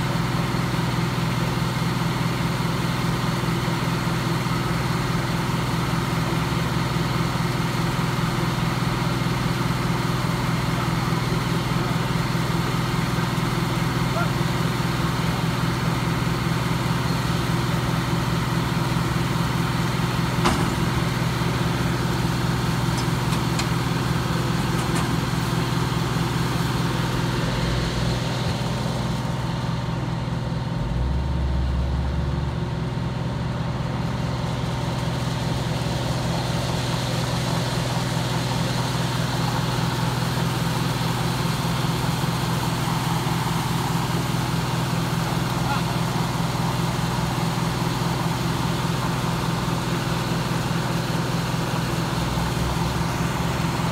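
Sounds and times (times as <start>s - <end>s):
diesel engine running steadily: 0.0s - 53.9s.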